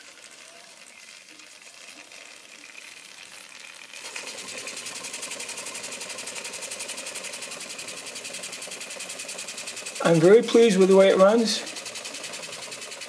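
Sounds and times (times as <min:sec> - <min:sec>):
toy steam engine chuffing: 0:00.0 - 0:13.0.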